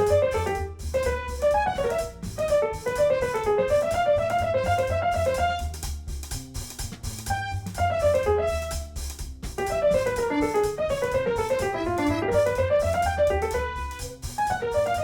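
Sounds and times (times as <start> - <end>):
bouncy piano melody: 0.0 - 5.8, 7.2 - 15.0
bass line: 0.0 - 15.0.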